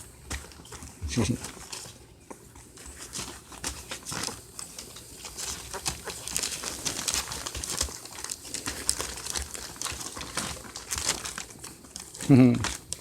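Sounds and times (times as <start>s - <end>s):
rustling and crinkling: 0.0s - 13.0s.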